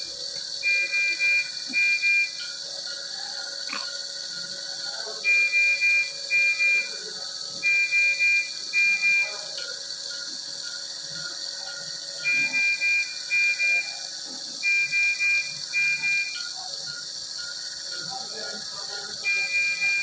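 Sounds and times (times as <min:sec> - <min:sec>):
medical alarm beeping: 0:00.0 - 0:20.0.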